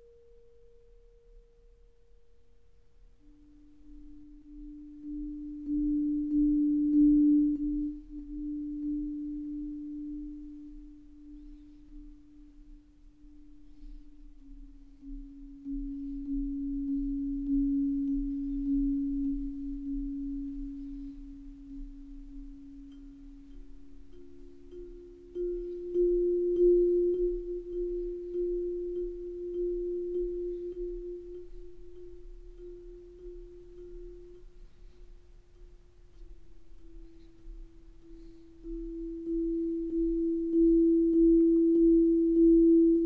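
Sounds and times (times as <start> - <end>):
ambient music of held notes: 0.0 - 43.0
faint low hum: 0.0 - 43.0.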